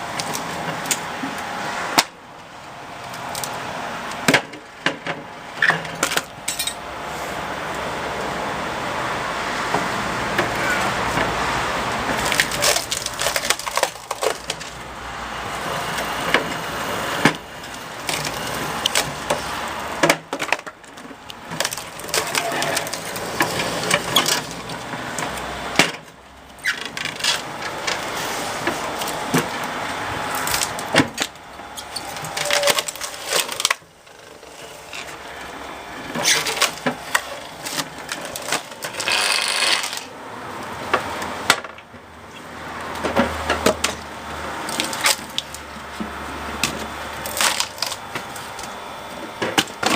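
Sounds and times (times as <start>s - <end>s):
wood cracking and splintering: 0.0s - 2.2s, 2.8s - 6.6s, 9.2s - 49.9s
log splitter running: 0.0s - 49.9s.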